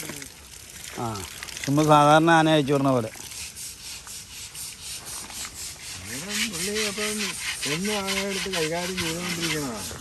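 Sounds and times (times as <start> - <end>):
scrubbing elephant hide: 1.1 - 10.0.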